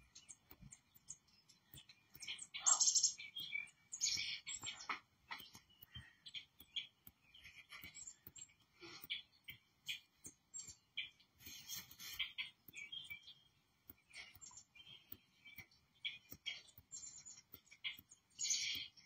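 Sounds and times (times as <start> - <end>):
small birds chirping through speakers: 0.0 - 19.0.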